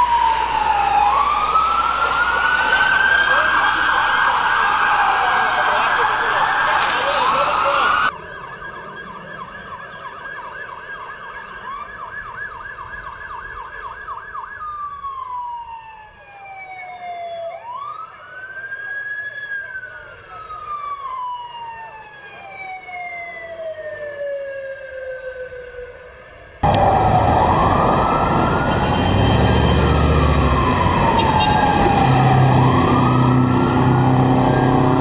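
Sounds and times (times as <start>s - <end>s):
ambulance siren: 0.0s - 35.0s
street noise: 0.0s - 35.0s.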